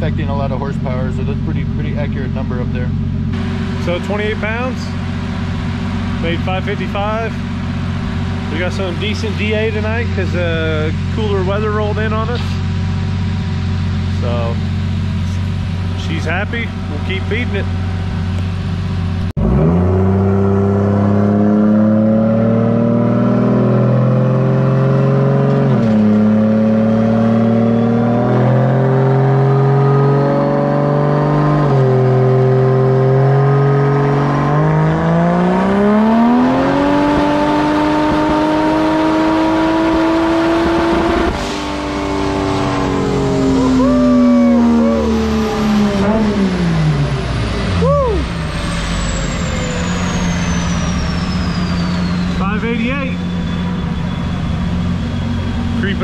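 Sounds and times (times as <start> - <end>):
engine revving on a dyno: 0.0 - 18.2, 19.0 - 56.0.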